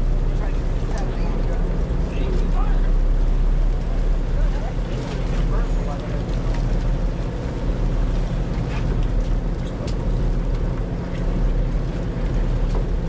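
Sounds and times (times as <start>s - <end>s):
boat engine running: 0.0s - 13.0s
water noise: 0.0s - 13.0s
wind: 0.0s - 13.0s.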